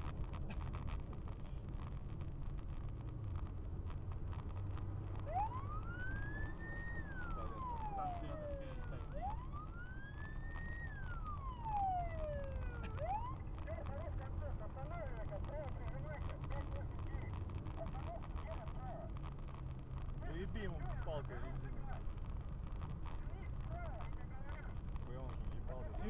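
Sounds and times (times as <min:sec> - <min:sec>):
low rumble of car driving: 0:00.0 - 0:26.0
emergency vehicle siren wailing: 0:04.3 - 0:26.0.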